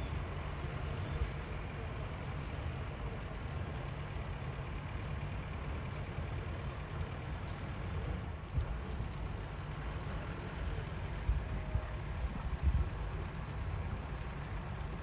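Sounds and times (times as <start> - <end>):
low harbour rumble: 0.0 - 15.0.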